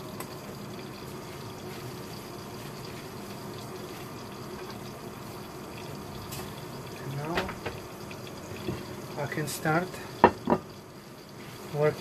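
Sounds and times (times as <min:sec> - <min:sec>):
pepper sizzling in butter: 0:00.0 - 0:12.0.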